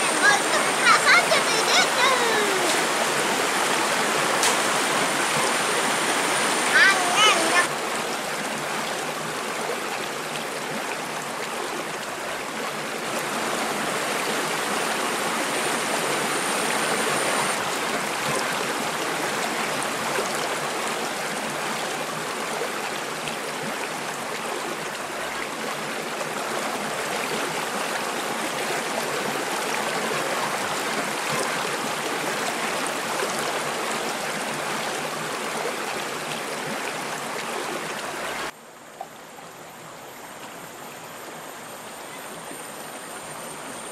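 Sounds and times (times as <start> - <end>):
river flowing: 0.0 - 43.9.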